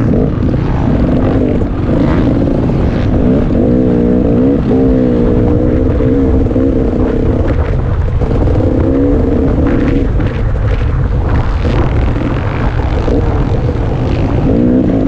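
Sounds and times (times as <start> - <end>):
dirt bike engine revving: 0.0 - 15.0
wind rumble on microphone: 0.0 - 15.0.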